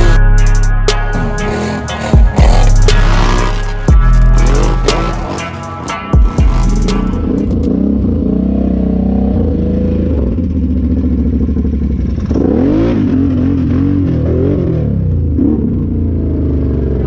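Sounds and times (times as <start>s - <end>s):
atv engine revving: 1.0s - 17.0s.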